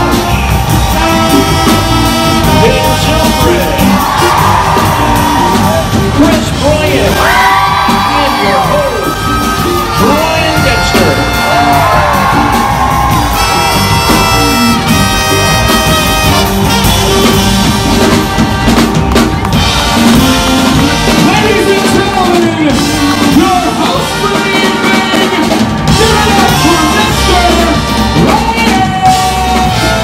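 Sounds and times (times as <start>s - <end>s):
band with drums and brass: 0.0s - 30.0s.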